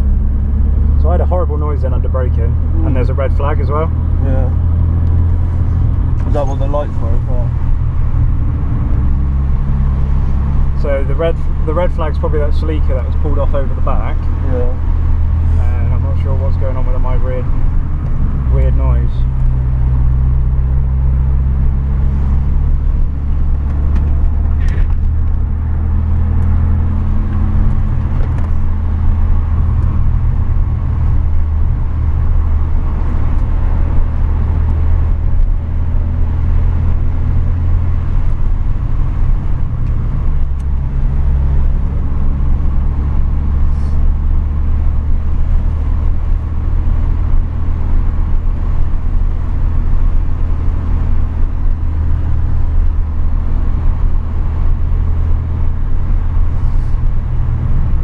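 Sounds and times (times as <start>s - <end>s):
in-cabin engine drone: 0.0s - 58.0s
road noise: 0.0s - 58.0s.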